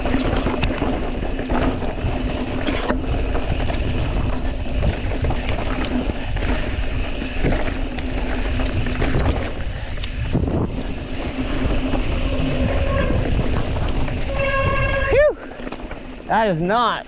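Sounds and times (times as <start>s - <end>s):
wind on microphone: 0.0s - 16.4s
bike tyres rumbling on dirt: 0.0s - 17.0s.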